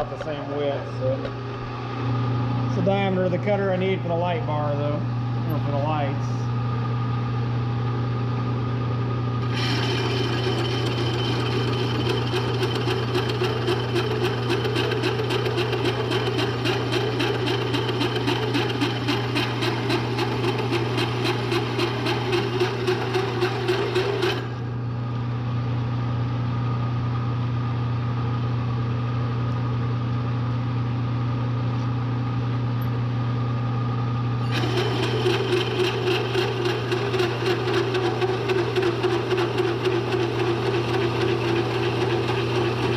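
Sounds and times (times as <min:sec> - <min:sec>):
machine hum: 0:00.0 - 0:28.4, 0:30.7 - 0:42.9.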